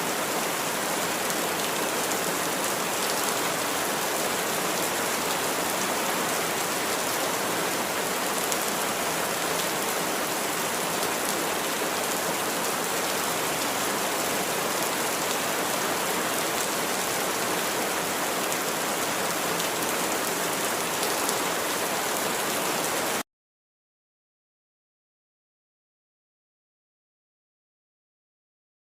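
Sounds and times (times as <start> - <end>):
steady rain falling: 0.0 - 23.2.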